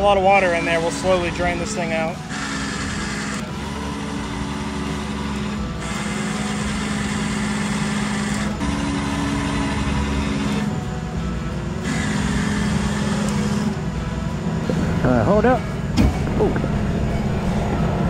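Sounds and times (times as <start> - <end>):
constant rushing noise: 0.0 - 18.0
truck engine running: 0.0 - 18.0.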